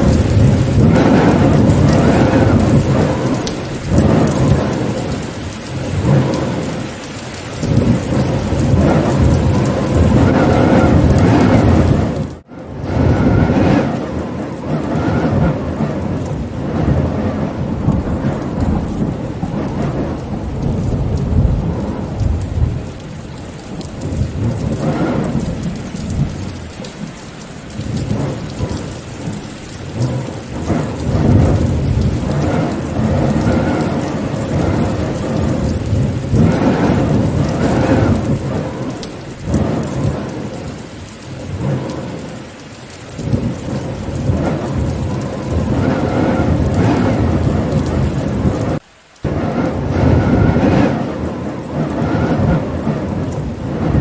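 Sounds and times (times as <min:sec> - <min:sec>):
steady rain falling: 0:00.0 - 0:54.0
thunder rumbling: 0:00.0 - 0:54.0.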